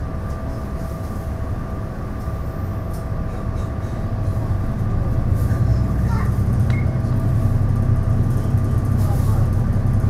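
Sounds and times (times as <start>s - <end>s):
diesel train rumbling: 0.0s - 10.0s.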